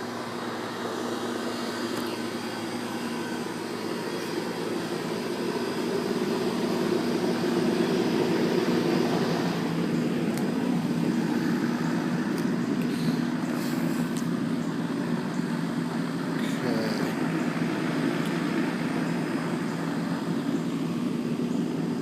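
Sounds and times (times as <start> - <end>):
mechanical drone: 0.0 - 22.0.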